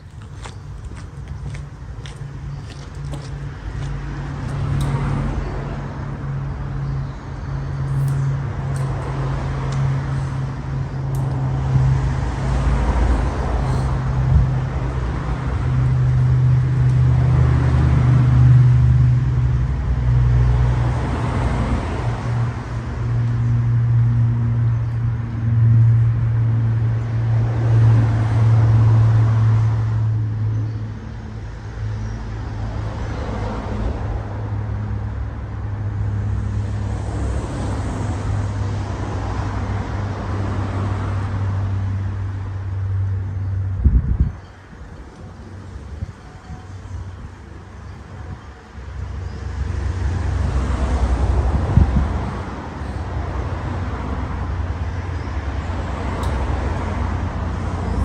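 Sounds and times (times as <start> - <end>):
engine hum: 0.0 - 58.0
engine rushes: 0.0 - 58.0.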